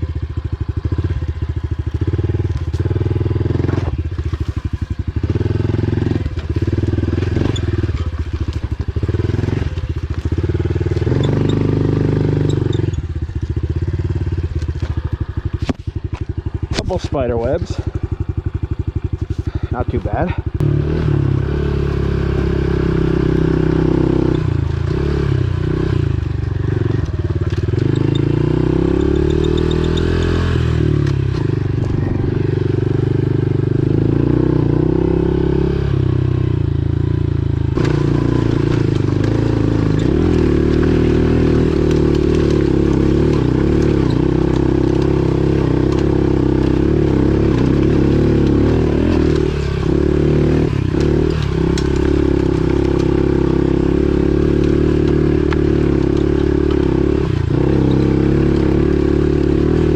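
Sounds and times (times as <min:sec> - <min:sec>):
pit bike engine revving: 0:00.0 - 0:59.9.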